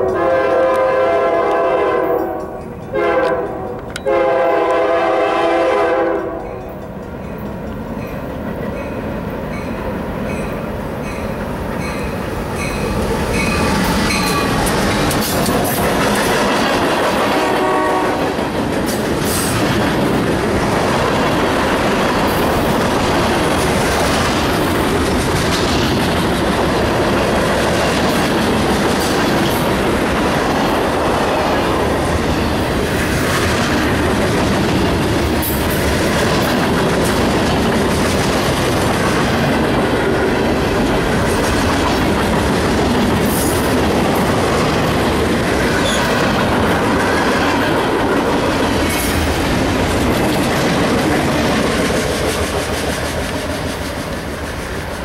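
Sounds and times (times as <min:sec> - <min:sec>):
steel wheels rumbling on rail: 0:00.0 - 0:55.0
clickety-clack over rail joints: 0:06.3 - 0:55.0.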